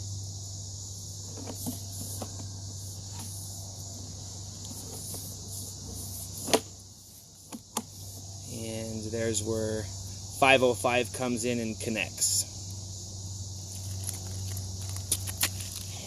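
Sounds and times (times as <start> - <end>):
high-pitched hiss: 0.0 - 16.0
low electrical hum: 0.0 - 16.0.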